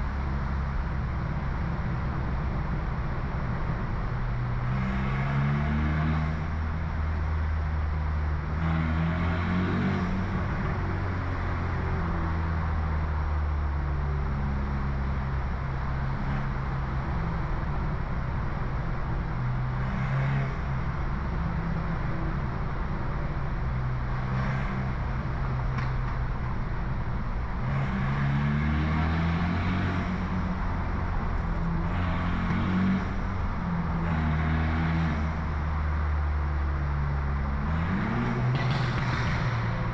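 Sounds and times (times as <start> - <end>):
loud exhaust: 3.8 - 39.9.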